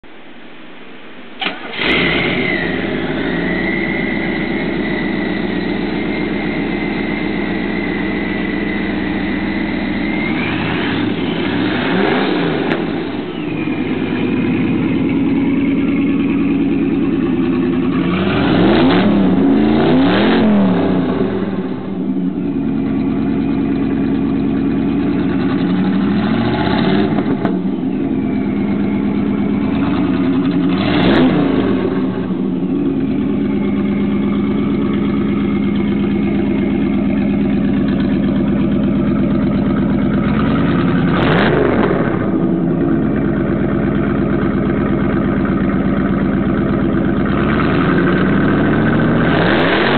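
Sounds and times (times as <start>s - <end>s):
car engine idling: 0.4s - 49.9s
engine revving: 1.4s - 49.9s.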